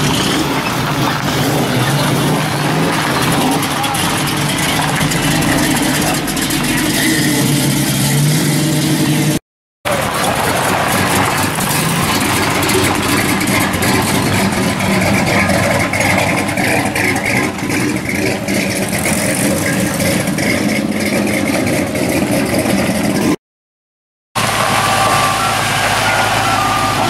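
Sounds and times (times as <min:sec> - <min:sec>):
car engine running loudly: 0:00.0 - 0:23.4, 0:24.4 - 0:27.0.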